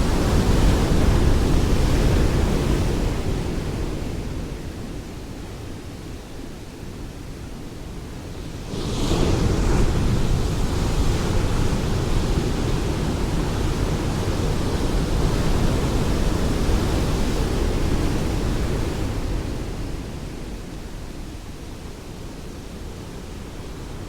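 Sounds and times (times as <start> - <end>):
ocean surf rumble: 0.0 - 24.0.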